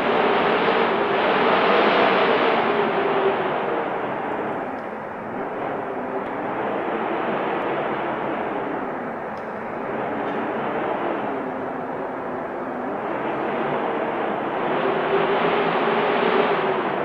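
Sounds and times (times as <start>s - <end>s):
wind blowing: 0.0s - 17.0s.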